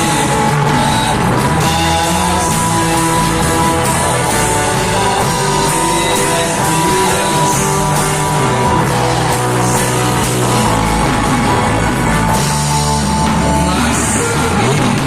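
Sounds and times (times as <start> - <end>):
electric guitar: 0.0 - 15.0
live band playing rock: 0.0 - 15.0.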